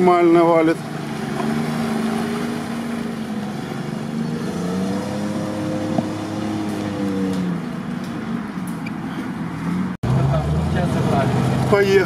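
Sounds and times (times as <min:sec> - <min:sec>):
off-road engine working under load: 0:00.0 - 0:12.0.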